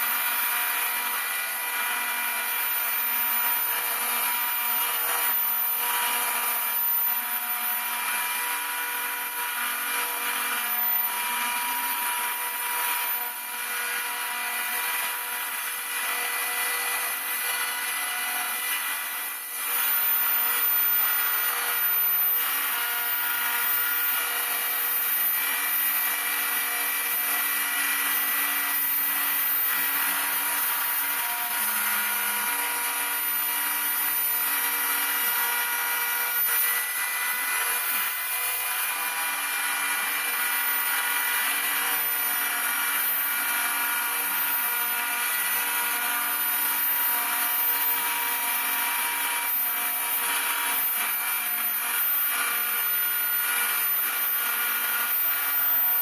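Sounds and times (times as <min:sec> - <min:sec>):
router spindle high whine: 0:00.0 - 0:56.0.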